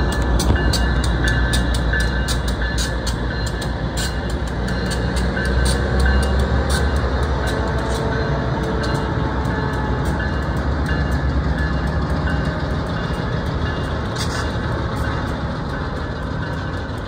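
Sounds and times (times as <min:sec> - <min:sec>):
diesel locomotive engines rumbling: 0:00.0 - 0:17.0
wheels clicking on rails: 0:00.0 - 0:17.0.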